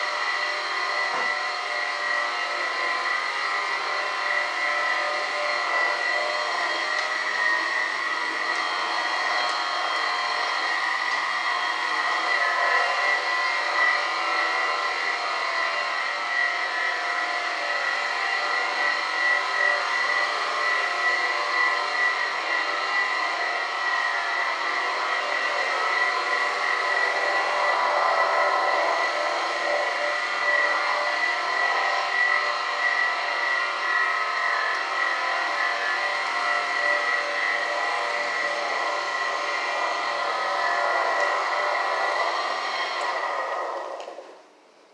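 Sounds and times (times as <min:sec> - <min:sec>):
floor scrubbing machine motor whine: 0:00.0 - 0:44.6.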